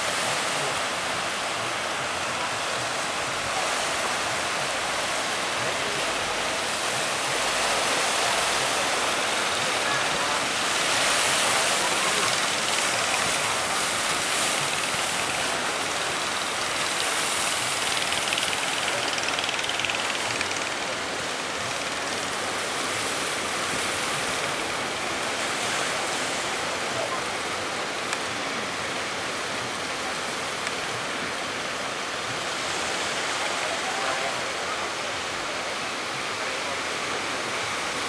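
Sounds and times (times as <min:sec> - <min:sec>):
surf roaring: 0:00.0 - 0:38.0.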